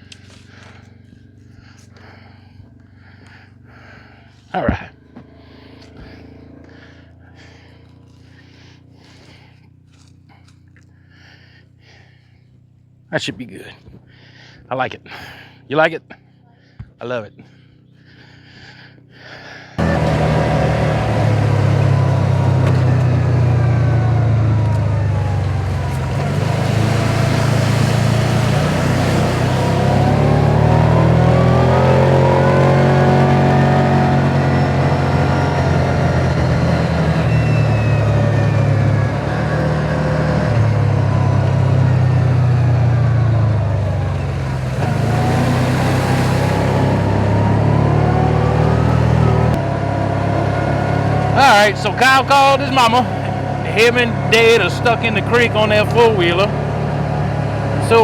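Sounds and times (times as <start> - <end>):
vehicle engine running with whine: 0.0 - 58.0.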